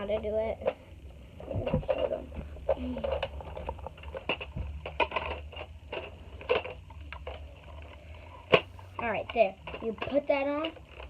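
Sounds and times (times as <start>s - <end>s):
plastic parts clicking and knocking: 1.5s - 11.0s.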